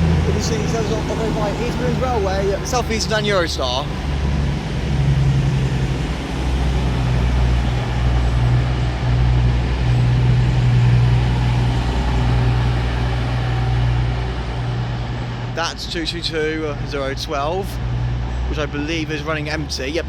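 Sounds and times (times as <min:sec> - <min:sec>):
train diesel engines droning: 0:00.0 - 0:20.0.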